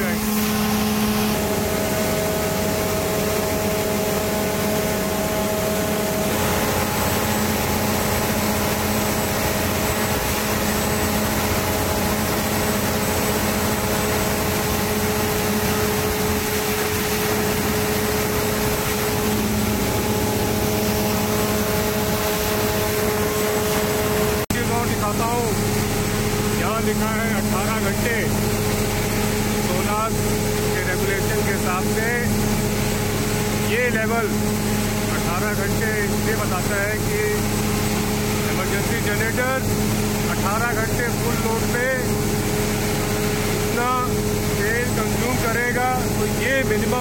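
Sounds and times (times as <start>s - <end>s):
diesel generator drone: 0.0s - 47.0s
steady whine: 0.0s - 47.0s.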